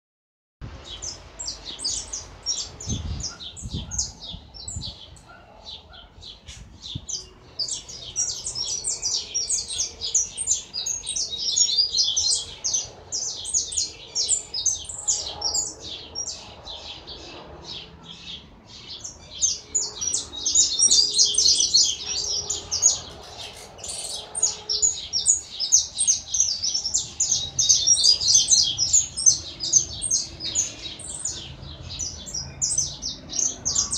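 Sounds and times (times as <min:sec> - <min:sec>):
finch singing chirps and trills: 0:00.6 - 0:33.9.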